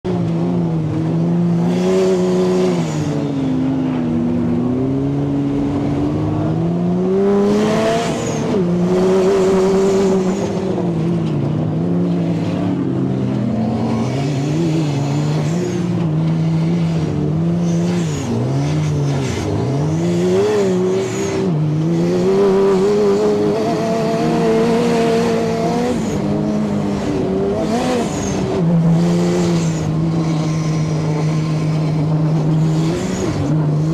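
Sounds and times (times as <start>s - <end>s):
turbocharged engine revving: 0.1s - 33.9s.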